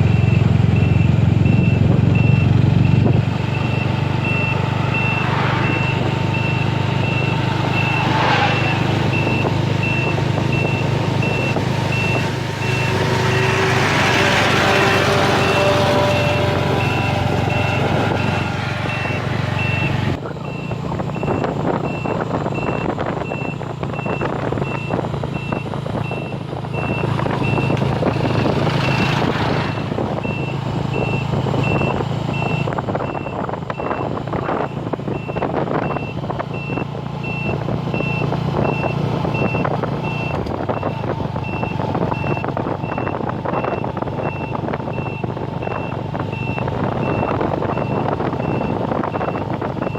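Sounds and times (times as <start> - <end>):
low engine hum: 0.0 - 49.9
vehicle reversing alarm beeping: 0.0 - 49.9.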